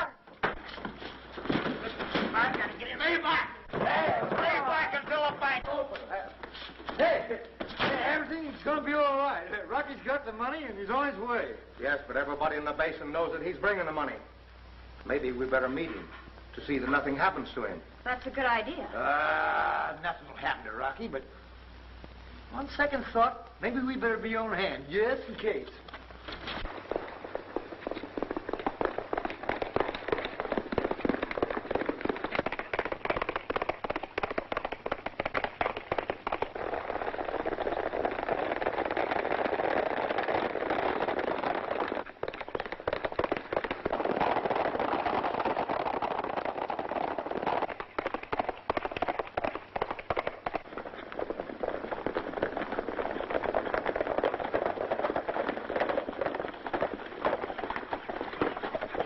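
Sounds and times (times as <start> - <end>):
horses galloping: 0.0 - 14.3, 22.6 - 59.0.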